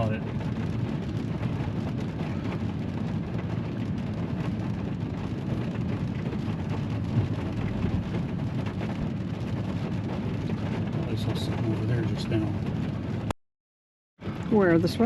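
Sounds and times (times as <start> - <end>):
car cabin rumble and hiss: 0.0 - 13.2
light rain: 0.0 - 13.3.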